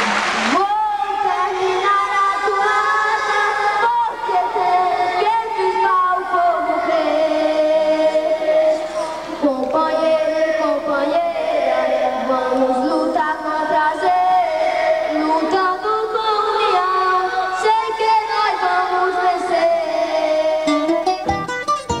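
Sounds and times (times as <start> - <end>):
boys singing into microphones: 0.0 - 21.2.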